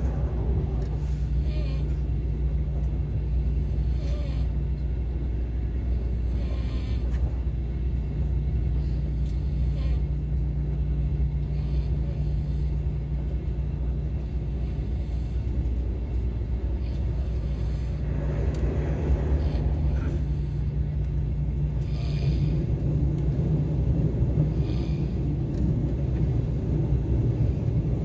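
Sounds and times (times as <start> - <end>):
train rumble inside cabin: 0.0 - 28.0.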